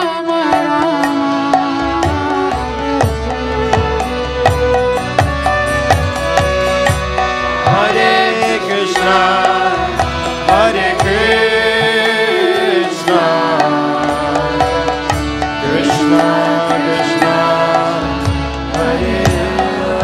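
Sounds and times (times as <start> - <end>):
hand drum: 0.0 - 20.0
drone tones: 0.5 - 20.0.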